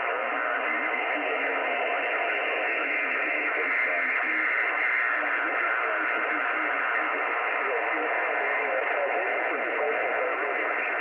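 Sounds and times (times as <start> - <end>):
faint broken radio voice: 0.0 - 11.0
radio band noise hiss: 0.0 - 11.0.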